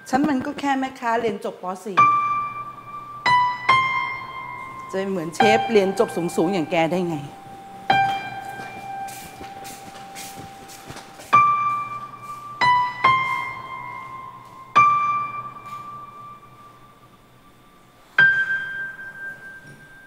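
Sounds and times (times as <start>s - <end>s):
slow sparse piano notes: 2.0s - 20.0s.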